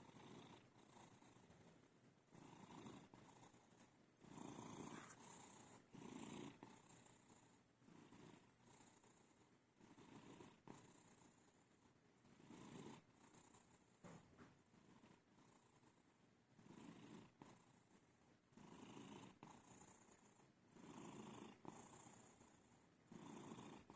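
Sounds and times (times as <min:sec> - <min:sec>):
cat snoring: 0:00.0 - 0:01.6, 0:02.3 - 0:23.9.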